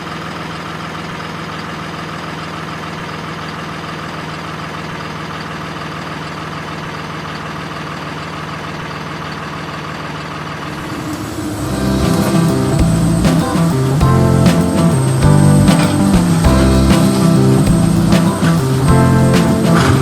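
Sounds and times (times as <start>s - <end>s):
heavy vehicle engine idling: 0.0s - 20.0s.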